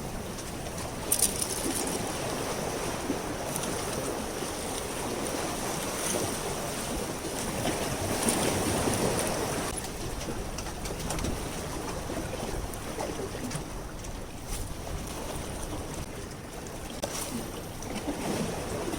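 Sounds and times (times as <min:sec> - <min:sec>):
water sloshing and lapping: 0:00.0 - 0:18.9.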